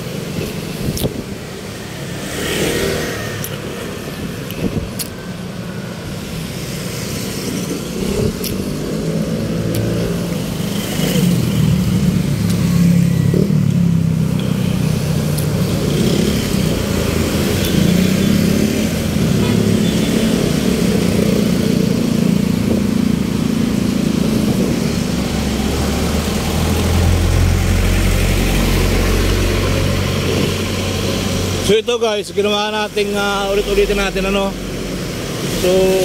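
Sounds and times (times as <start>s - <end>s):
vehicle engines running: 0.0s - 36.0s.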